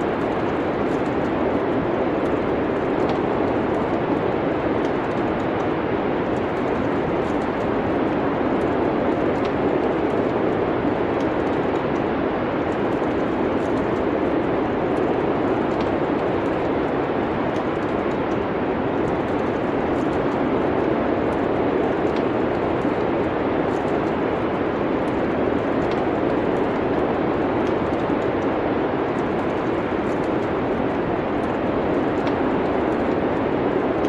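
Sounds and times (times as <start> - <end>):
rushing wind: 0.0 - 34.0
wood fire crackling: 0.0 - 34.0.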